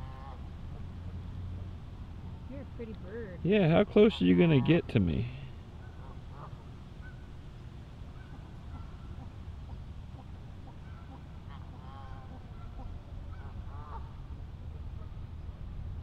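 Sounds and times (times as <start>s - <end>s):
faint waterfowl calls: 0.0s - 1.8s, 4.3s - 15.8s.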